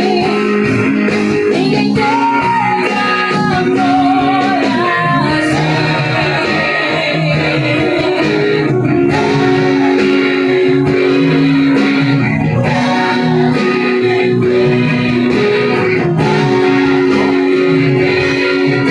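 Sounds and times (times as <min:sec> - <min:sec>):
electric guitar improvising: 0:00.0 - 0:18.9
recorded song: 0:00.0 - 0:18.9.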